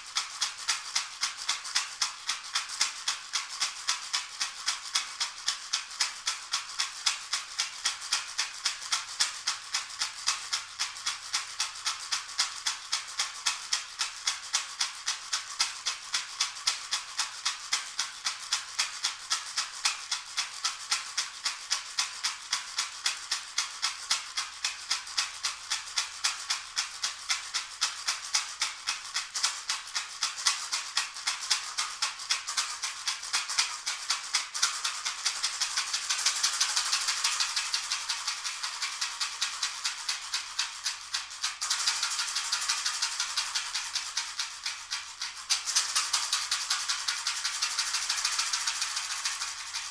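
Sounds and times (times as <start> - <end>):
shaker rattle shaken: 0.0 - 49.9.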